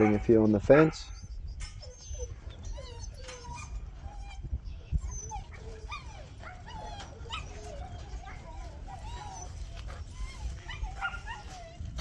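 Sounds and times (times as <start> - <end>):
wind rumble on microphone: 0.0 - 12.0
dog whining and yipping: 1.1 - 12.0.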